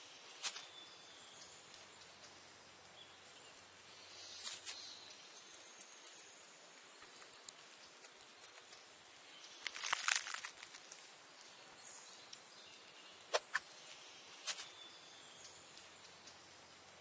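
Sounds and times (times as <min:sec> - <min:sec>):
faint natural ambience: 0:00.0 - 0:17.0.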